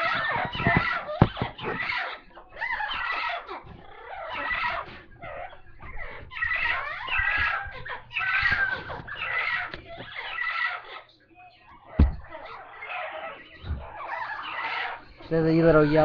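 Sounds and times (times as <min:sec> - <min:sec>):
parrots squawking and chattering: 0:00.0 - 0:16.0.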